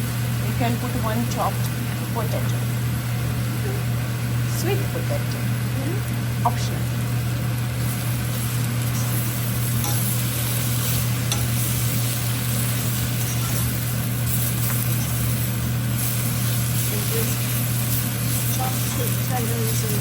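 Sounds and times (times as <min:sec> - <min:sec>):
greens sizzling in hot oil: 0:00.0 - 0:20.0
steady low hum: 0:00.0 - 0:20.0.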